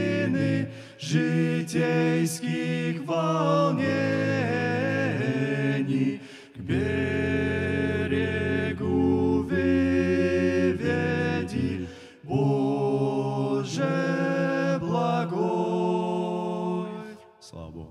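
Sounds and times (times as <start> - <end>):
male quartet singing a hymn: 0.0 - 17.9.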